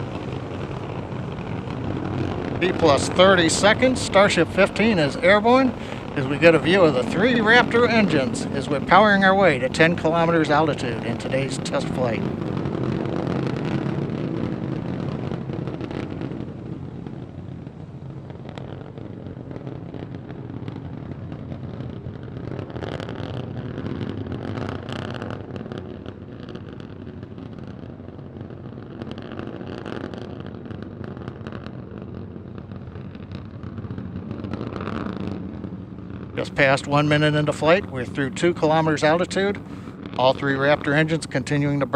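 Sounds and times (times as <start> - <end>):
rocket engines rumbling: 0.0 - 41.9.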